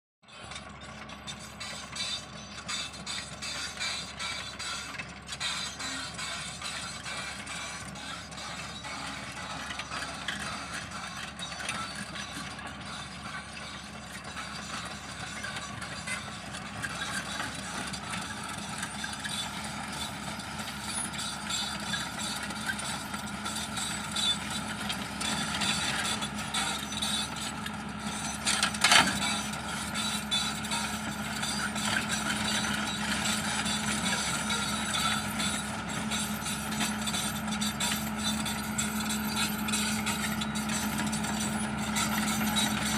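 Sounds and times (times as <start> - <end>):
excavator diesel engine running: 0.2 - 42.9.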